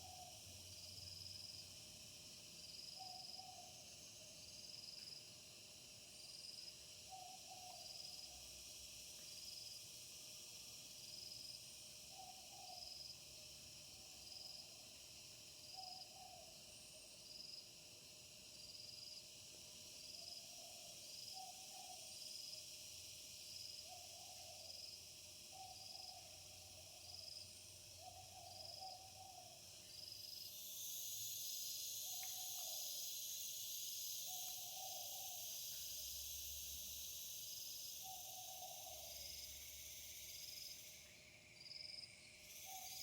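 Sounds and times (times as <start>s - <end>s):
high insect drone: 0.0s - 43.0s
insect chirping: 0.0s - 43.0s.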